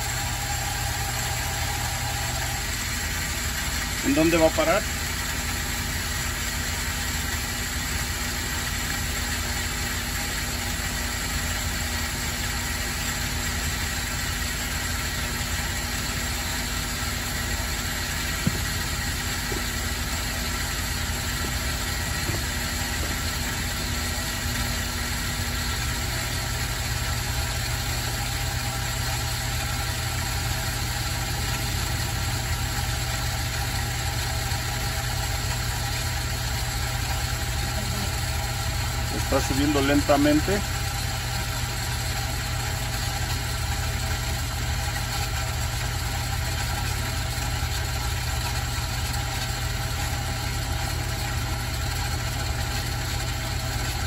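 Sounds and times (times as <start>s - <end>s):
electric pump motor humming: 0.0s - 54.0s.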